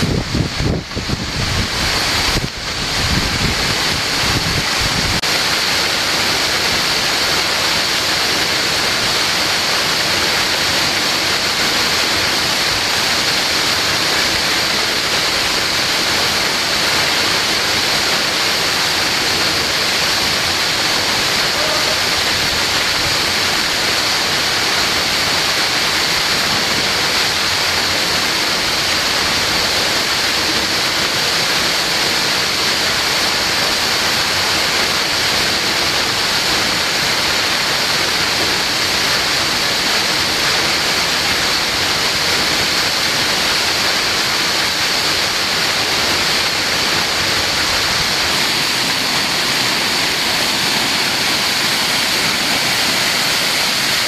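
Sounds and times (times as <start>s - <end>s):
fast-flowing water rushing: 0.0s - 54.0s.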